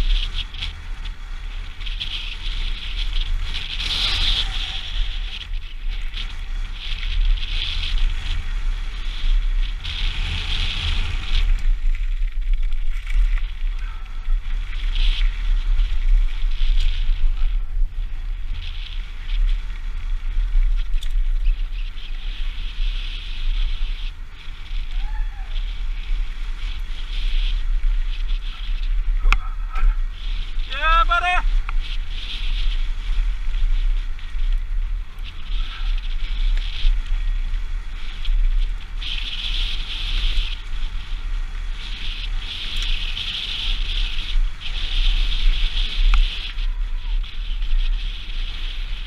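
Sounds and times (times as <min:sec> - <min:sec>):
tyres hissing on dirt: 0:00.0 - 0:12.0, 0:21.6 - 0:49.0
bike rattling: 0:00.0 - 0:49.0
wind buffeting microphone: 0:00.0 - 0:49.0.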